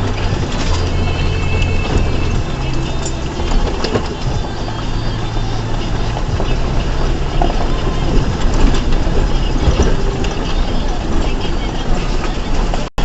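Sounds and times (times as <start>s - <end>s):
pickup engine at low revs: 0.0s - 12.9s
knocks and rattles: 0.0s - 13.0s
tyres on rough ground: 0.0s - 13.0s.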